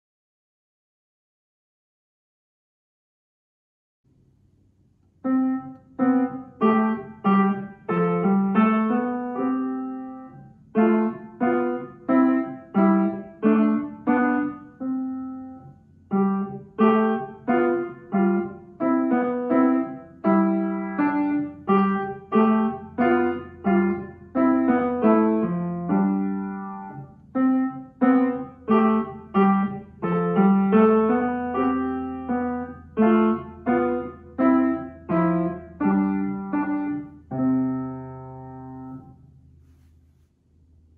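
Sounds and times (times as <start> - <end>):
upright piano tune: 5.2 - 39.2.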